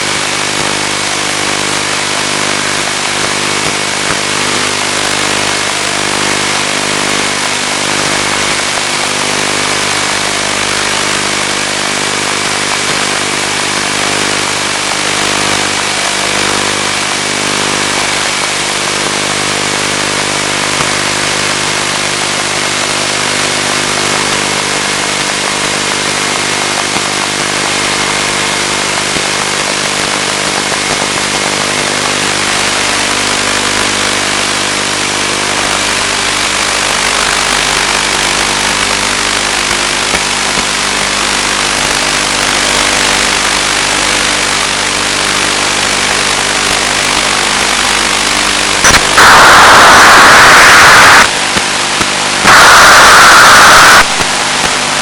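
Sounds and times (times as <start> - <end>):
electric motor and propeller drone: 0.0 - 55.0
thin high whine: 0.0 - 55.0.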